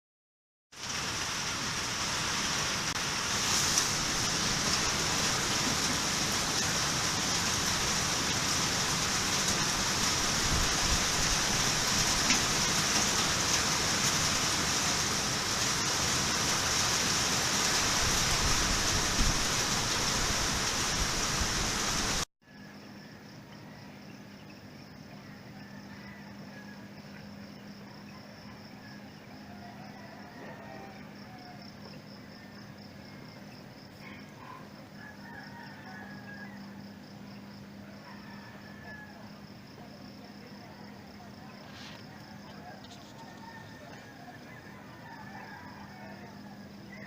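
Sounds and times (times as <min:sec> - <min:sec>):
steady rain falling: 0:00.7 - 0:22.3, 0:25.8 - 0:47.0.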